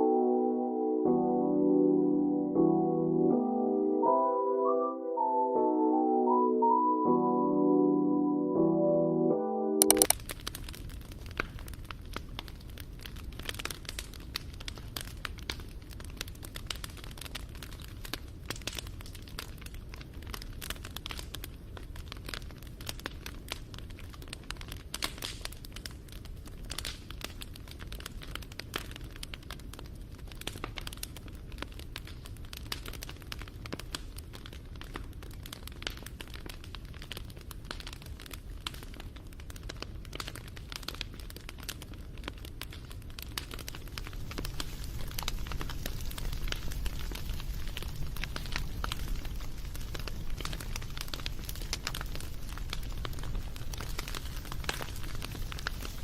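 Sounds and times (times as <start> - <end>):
campfire crackling: 9.8 - 56.0.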